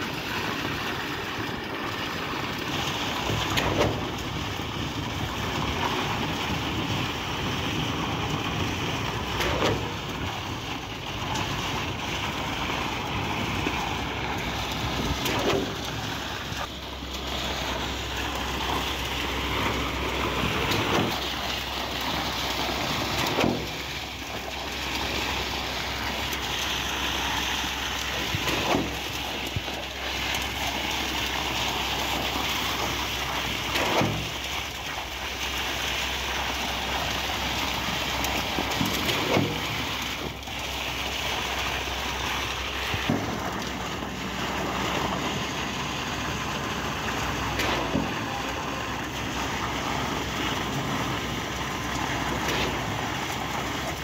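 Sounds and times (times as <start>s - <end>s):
pump pistons knocking: 0.0s - 54.0s
wet concrete gushing from hose: 0.0s - 54.0s.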